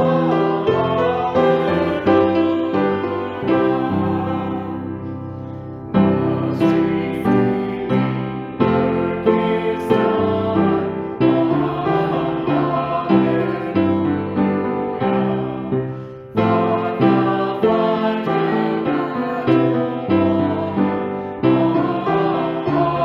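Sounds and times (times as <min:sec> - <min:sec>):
piano playing a hymn: 0:00.0 - 0:23.0.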